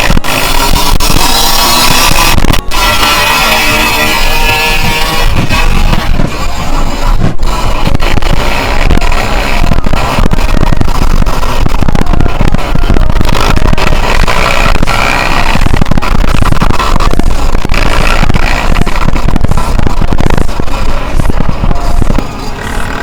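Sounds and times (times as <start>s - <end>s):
two-stroke dirt bike engine: 0.0s - 23.0s.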